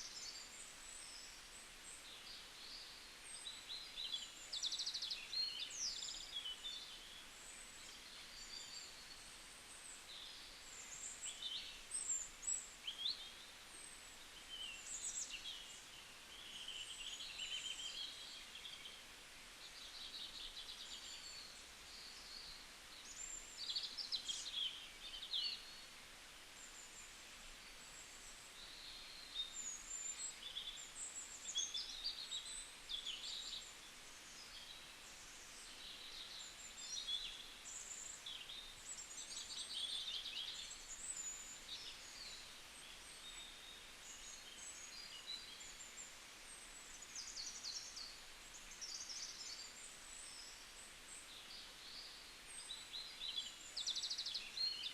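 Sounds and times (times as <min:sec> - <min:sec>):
faint background hiss: 0:00.0 - 0:54.9
small birds chirping: 0:00.0 - 0:54.9.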